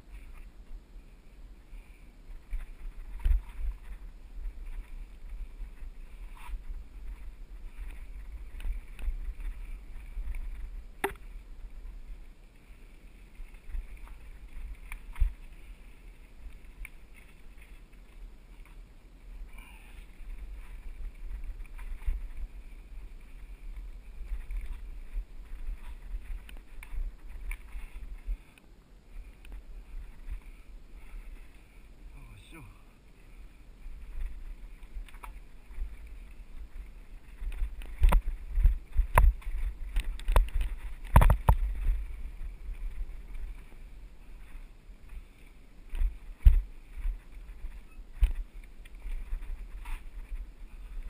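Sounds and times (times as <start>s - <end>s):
bike tyres rumbling on trail: 0.0s - 51.0s.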